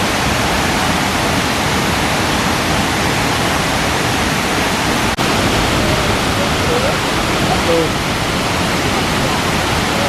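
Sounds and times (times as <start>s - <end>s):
waterfall crashing: 0.0s - 10.0s.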